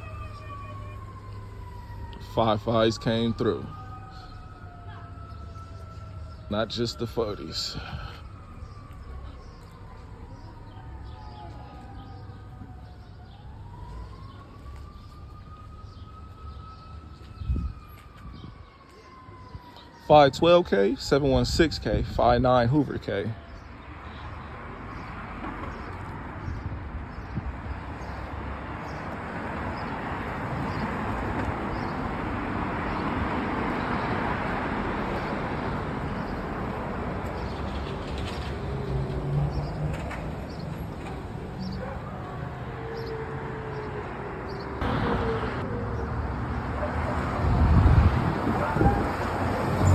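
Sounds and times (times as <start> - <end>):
emergency vehicle siren wailing: 0.0 - 49.9.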